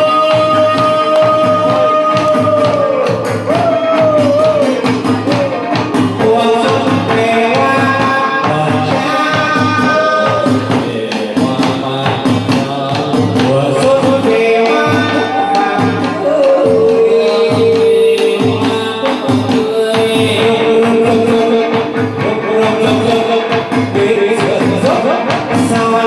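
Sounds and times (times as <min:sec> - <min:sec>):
clapper and cymbal percussion: 0:00.0 - 0:26.0
steady drum beat: 0:00.0 - 0:26.0
string accompaniment: 0:00.0 - 0:26.0.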